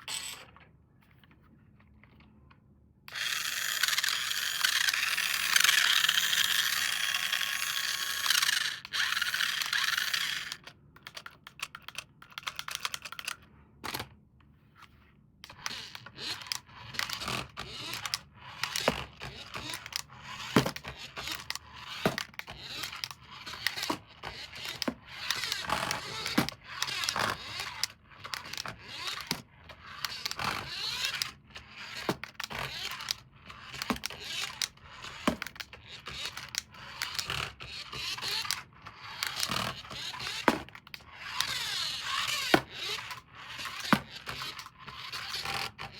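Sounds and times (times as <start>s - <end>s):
plastic toy being handled: 0.0s - 45.9s
toy motor and gears whirring: 3.1s - 14.0s, 15.4s - 45.9s.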